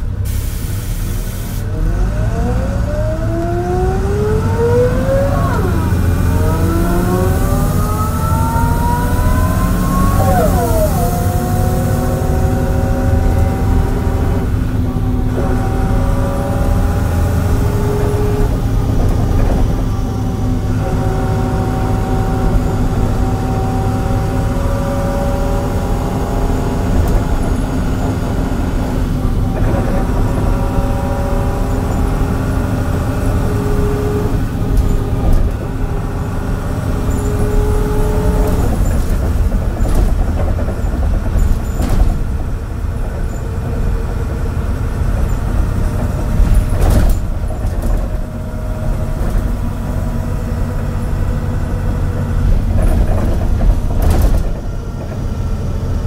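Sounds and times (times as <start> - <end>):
bus engine idling: 0.0 - 2.2, 3.4 - 56.0
engine whining tones: 1.6 - 56.0.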